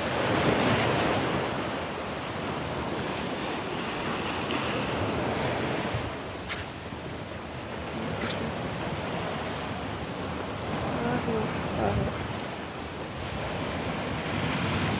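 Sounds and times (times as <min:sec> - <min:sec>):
sea waves washing on shore: 0:00.0 - 0:14.9
wind on the microphone: 0:00.0 - 0:14.9.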